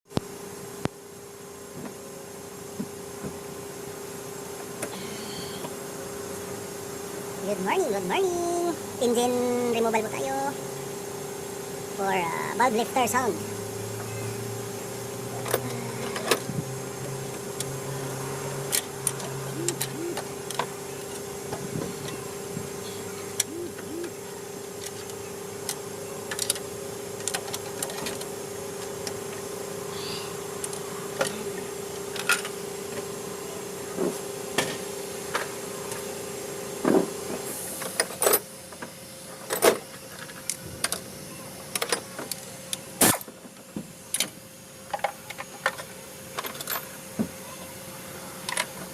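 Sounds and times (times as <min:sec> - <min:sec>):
steady machine hum: 0:00.1 - 0:48.9.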